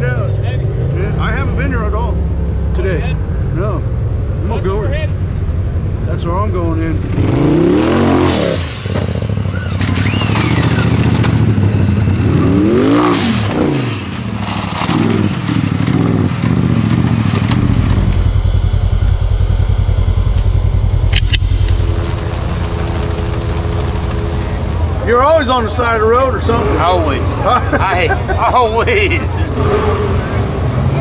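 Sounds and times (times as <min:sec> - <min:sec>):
vehicle engine revving and idling: 0:00.0 - 0:31.0.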